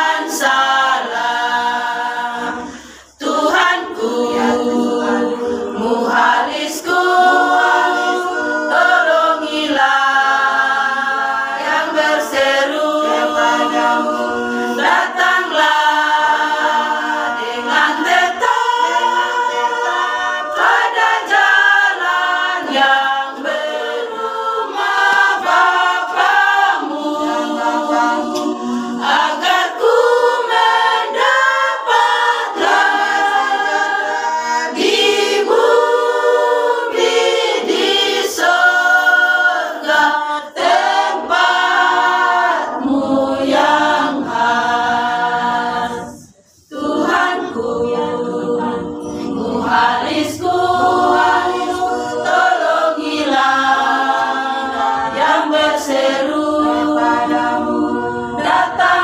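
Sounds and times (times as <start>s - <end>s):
women's choir singing a cappella: 0.0s - 59.0s.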